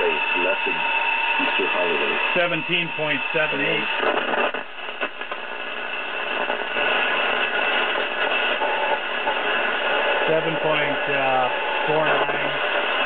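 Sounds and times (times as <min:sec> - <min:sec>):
radio whistle: 0:00.0 - 0:13.0
shortwave radio static: 0:00.0 - 0:13.0
radio clicks: 0:01.4 - 0:13.0.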